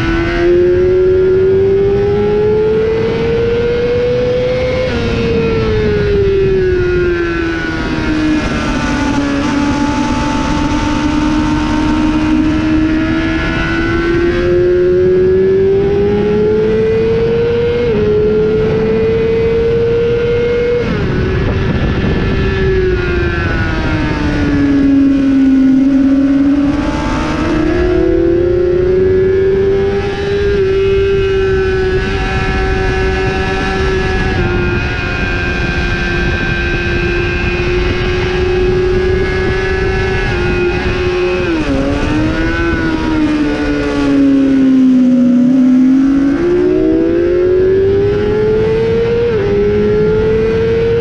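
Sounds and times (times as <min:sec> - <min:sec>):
motorcycle engine revving: 0:00.0 - 0:51.0
wind rush: 0:00.0 - 0:51.0.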